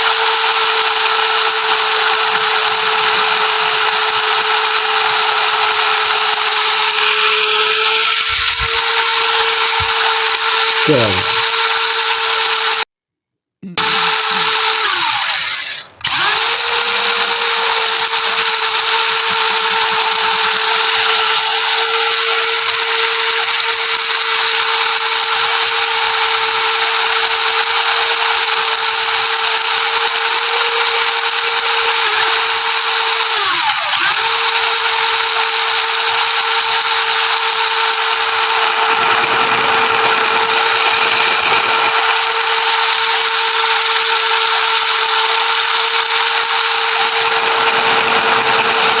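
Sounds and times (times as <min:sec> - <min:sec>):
electric motor and gearbox whining: 0:00.0 - 0:12.9, 0:13.6 - 0:49.0.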